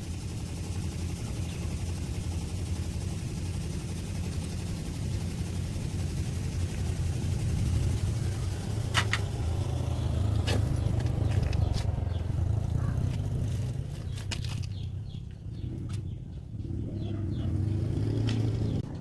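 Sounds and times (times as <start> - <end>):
engine running with low rumble: 0.0 - 19.0.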